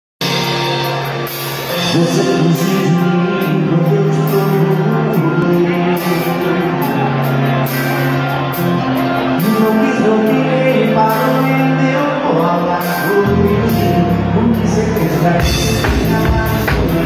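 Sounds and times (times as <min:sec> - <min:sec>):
live band amplified music: 0:00.2 - 0:17.0
man singing: 0:01.7 - 0:17.0.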